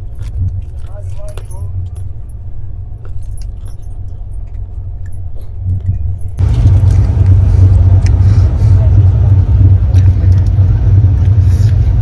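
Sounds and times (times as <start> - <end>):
train rumble inside coach: 0.0 - 12.0.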